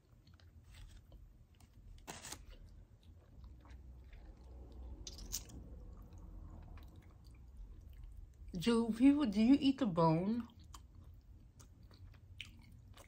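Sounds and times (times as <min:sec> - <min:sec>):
person chewing: 0:00.0 - 0:08.5, 0:10.5 - 0:13.0.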